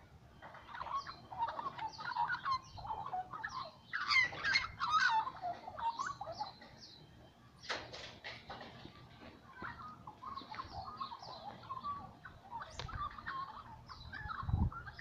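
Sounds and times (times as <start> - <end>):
magpies warbling: 0.0 - 15.0.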